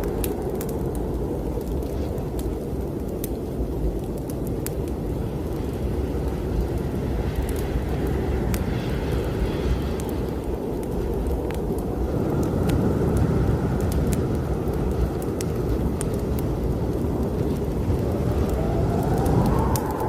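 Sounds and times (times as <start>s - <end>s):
fireplace fire crackling: 0.0s - 20.0s
strong wind rumbling: 0.0s - 20.0s.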